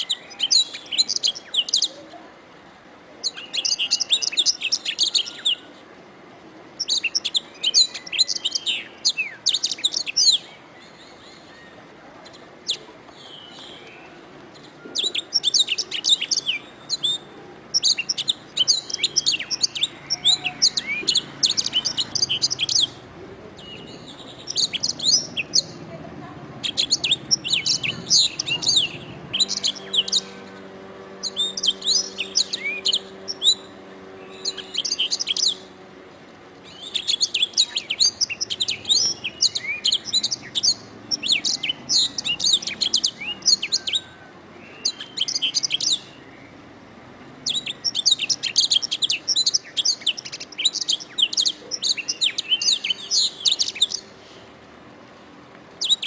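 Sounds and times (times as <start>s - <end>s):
canary singing trills: 0.0s - 2.3s, 3.2s - 5.8s, 6.7s - 46.8s, 47.4s - 54.4s, 55.8s - 56.0s.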